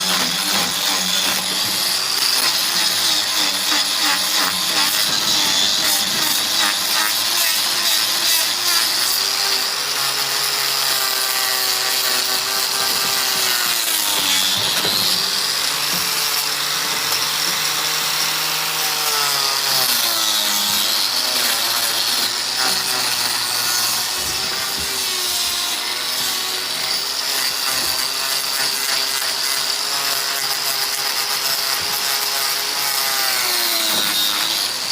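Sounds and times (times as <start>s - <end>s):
power tool whining: 0.0s - 34.9s.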